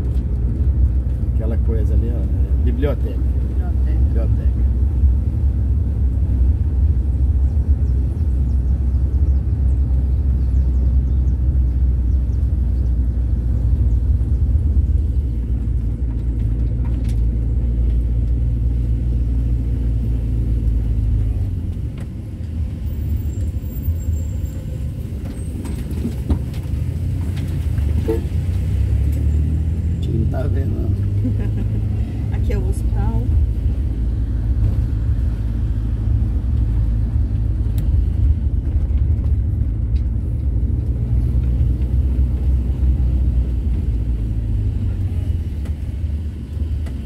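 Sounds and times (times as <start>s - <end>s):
van engine and road rumble: 0.0s - 47.0s.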